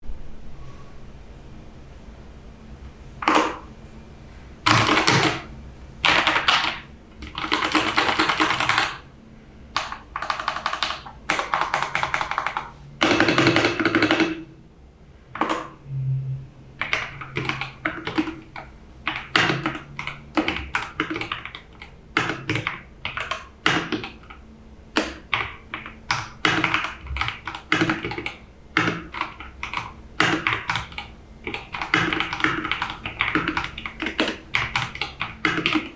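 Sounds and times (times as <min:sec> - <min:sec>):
mechanical keyboard typing: 0:03.2 - 0:03.7, 0:04.7 - 0:09.0, 0:09.8 - 0:14.4, 0:15.4 - 0:15.8, 0:16.8 - 0:35.9.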